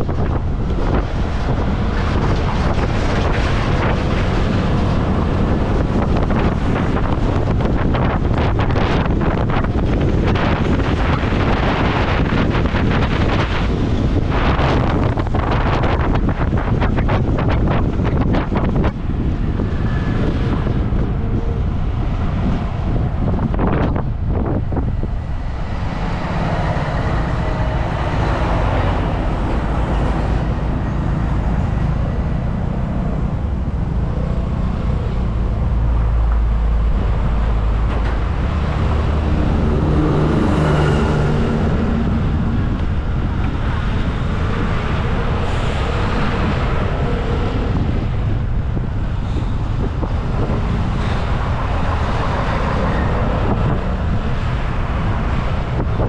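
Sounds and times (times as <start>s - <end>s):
passing traffic: 0.0s - 56.0s
tyre and road noise: 0.0s - 56.0s
wind on microphone: 0.0s - 56.0s.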